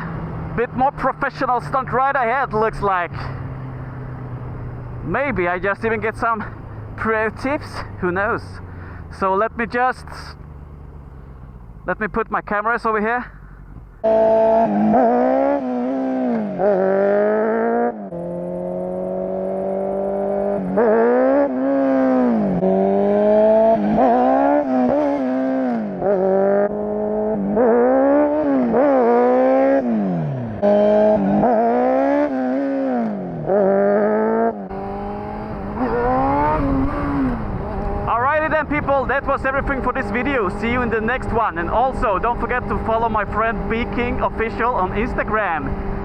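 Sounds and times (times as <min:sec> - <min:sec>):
motorcycle engine revving: 0:00.0 - 0:11.8, 0:13.9 - 0:46.0.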